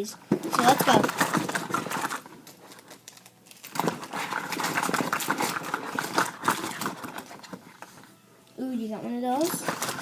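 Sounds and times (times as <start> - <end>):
toy packaging rustling: 0.0 - 8.2, 9.2 - 10.0.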